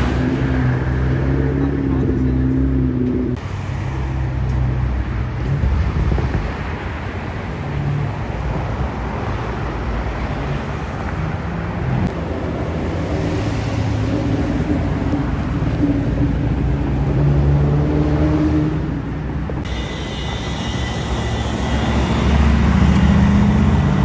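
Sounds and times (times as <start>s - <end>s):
outdoor traffic noise: 0.0s - 24.0s.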